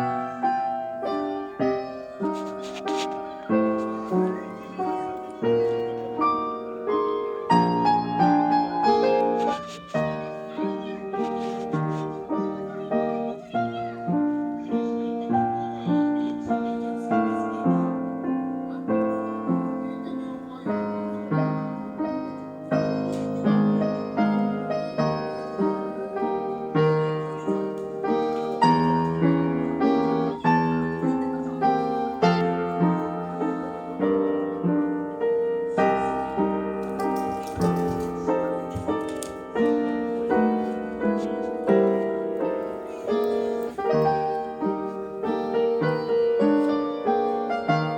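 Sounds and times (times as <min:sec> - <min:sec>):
gentle piano music: 0:00.0 - 0:47.9.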